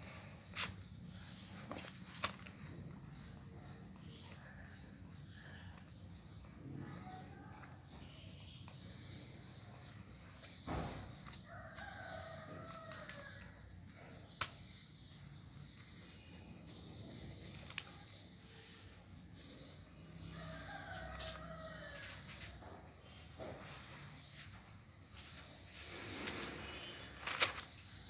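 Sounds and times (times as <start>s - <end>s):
pencil scratching on paper: 0.0s - 0.9s, 1.6s - 27.8s.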